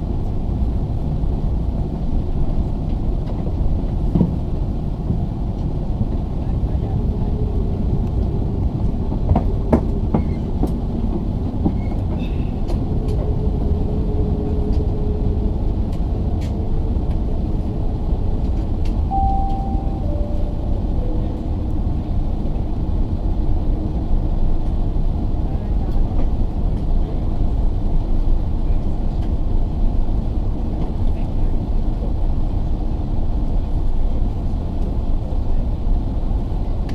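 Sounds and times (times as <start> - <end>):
jet engines rumbling: 0.0 - 35.1.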